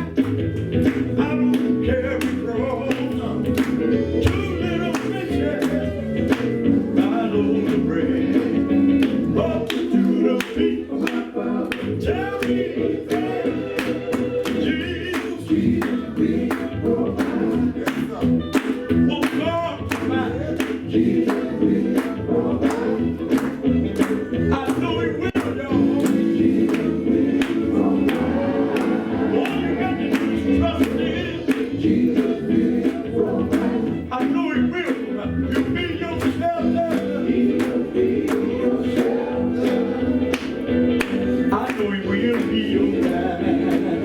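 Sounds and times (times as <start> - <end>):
band playing steady beat: 0.0 - 44.0
group singing gospel: 0.0 - 44.0.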